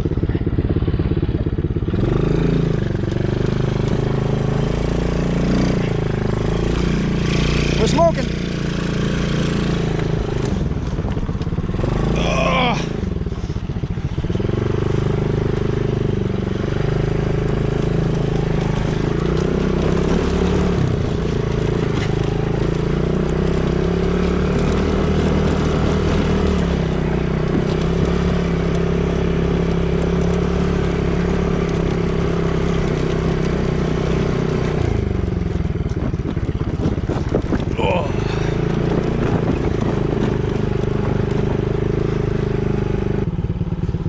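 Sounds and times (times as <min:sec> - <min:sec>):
small atv engine running: 0:00.0 - 0:44.0.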